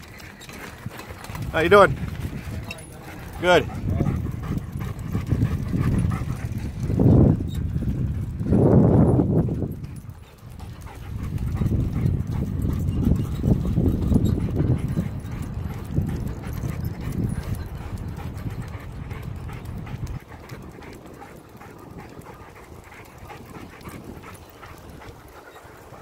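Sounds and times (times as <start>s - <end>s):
dog paws clicking on pavement: 0.0s - 26.0s
wind buffeting microphone: 0.0s - 26.0s.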